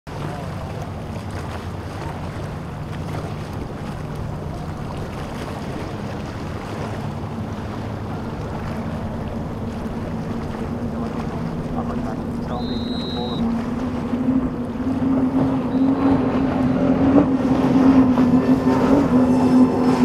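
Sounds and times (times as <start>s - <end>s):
boat motor running: 0.1s - 20.0s
surf: 0.1s - 20.0s.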